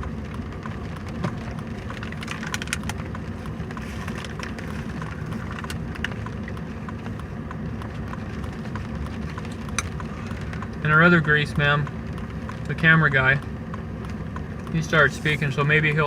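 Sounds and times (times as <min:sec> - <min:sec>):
road and engine noise in car: 0:00.0 - 0:16.0.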